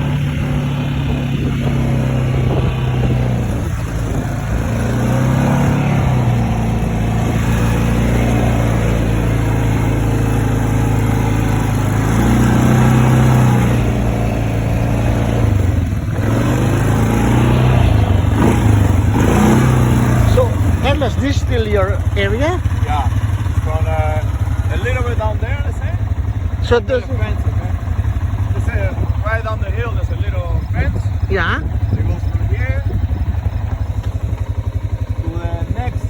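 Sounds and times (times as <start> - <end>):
vehicle engine revving: 0.0 - 36.0.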